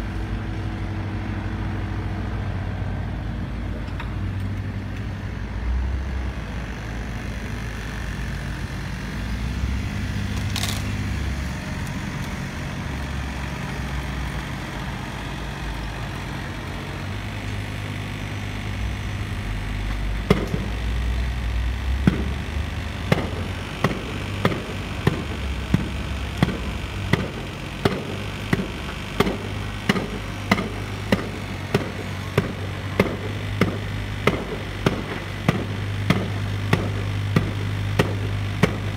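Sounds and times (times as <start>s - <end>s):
diesel engines droning: 0.0s - 38.9s.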